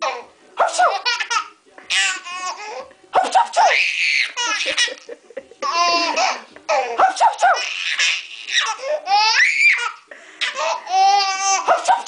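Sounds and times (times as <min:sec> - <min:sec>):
baby laughing and squealing: 0:00.7 - 0:05.0, 0:05.6 - 0:12.0.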